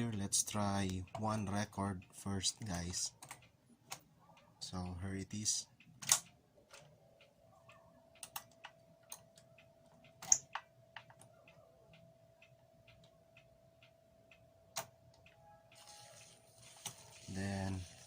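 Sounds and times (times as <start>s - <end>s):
mechanical ticks: 0.0s - 18.0s
record changer hum: 0.0s - 18.0s.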